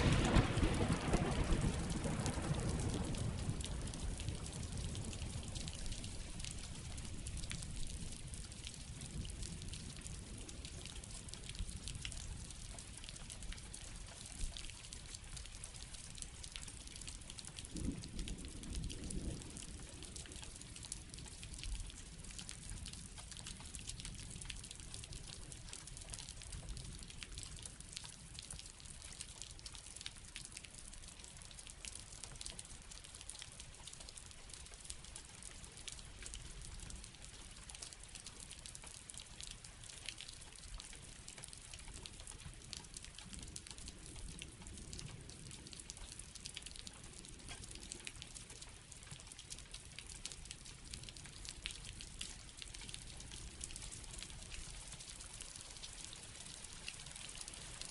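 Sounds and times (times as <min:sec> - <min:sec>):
low rumble of rain: 0:00.0 - 0:57.9
rain drops ticking: 0:00.0 - 0:57.9.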